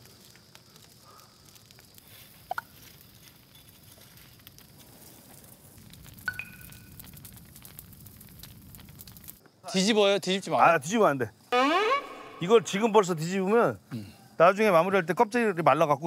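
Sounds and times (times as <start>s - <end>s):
open fire crackling: 0.0s - 16.0s.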